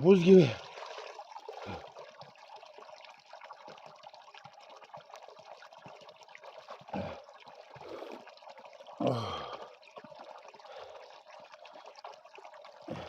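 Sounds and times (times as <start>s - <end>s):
spring water trickling: 0.0s - 13.0s.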